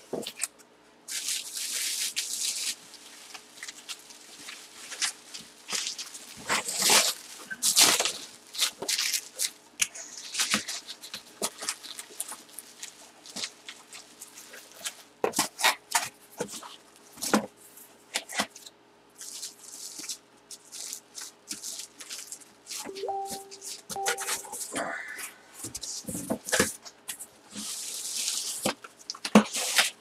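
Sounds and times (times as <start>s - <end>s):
cardboard and plastic rustling: 1.1s - 24.6s, 25.6s - 30.0s.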